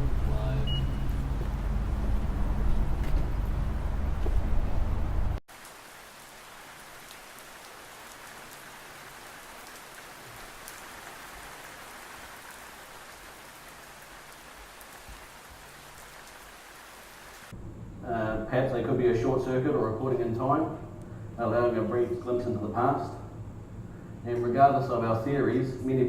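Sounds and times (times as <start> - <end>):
steady rain hiss: 0.0 - 3.0, 3.8 - 26.0.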